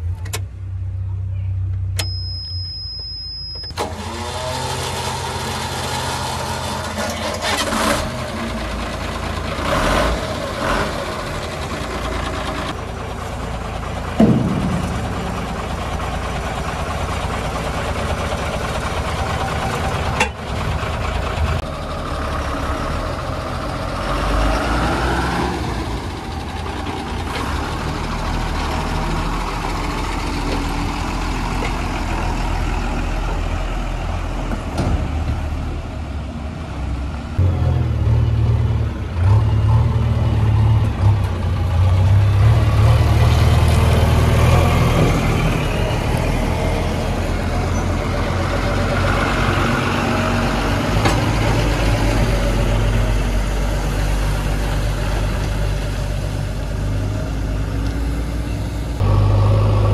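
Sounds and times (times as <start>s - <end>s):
truck diesel engine running: 1.9s - 59.9s.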